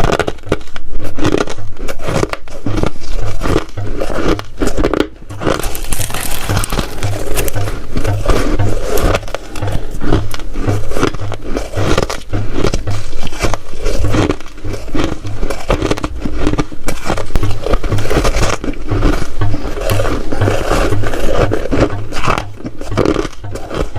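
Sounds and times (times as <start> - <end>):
ice being chewed: 0.0 - 23.9.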